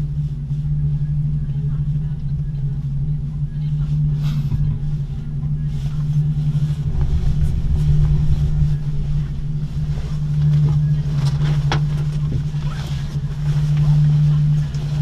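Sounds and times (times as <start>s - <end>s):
gondola cabin humming and rumbling: 0.0s - 15.0s
gondola rattle passing pylon: 0.0s - 15.0s.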